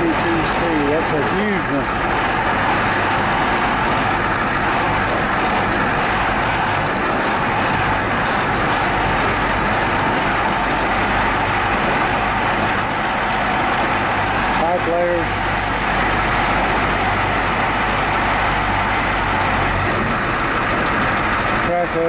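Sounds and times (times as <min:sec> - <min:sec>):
low hum: 0:00.0 - 0:22.0
truck engine and road noise: 0:00.0 - 0:22.0.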